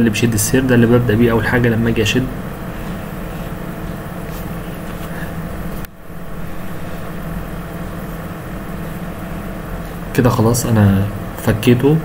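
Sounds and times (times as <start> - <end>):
motor humming: 0.5 - 10.2.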